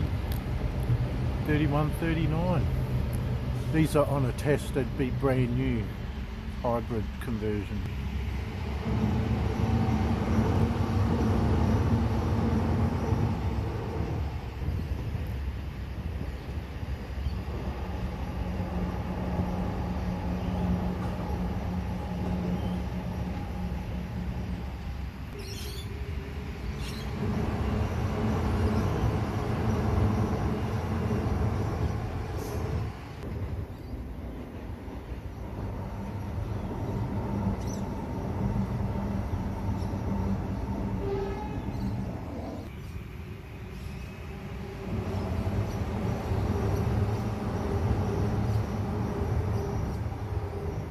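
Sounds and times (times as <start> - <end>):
railcar rumbling past: 0.0 - 50.9.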